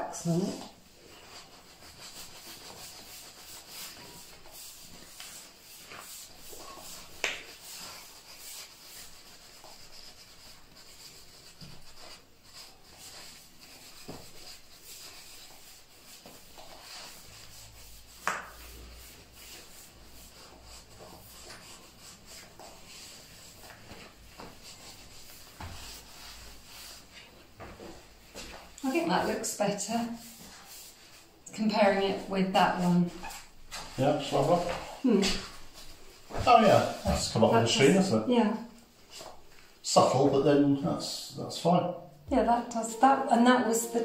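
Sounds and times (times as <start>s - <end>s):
cloth rubbing: 0.1s - 41.2s, 42.4s - 44.0s.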